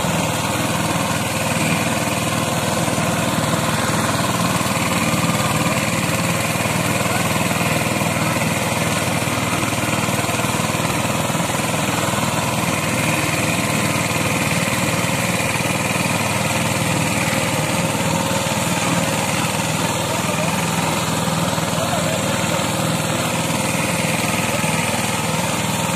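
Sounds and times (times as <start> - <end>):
tractor diesel engine under load: 0.0 - 25.9.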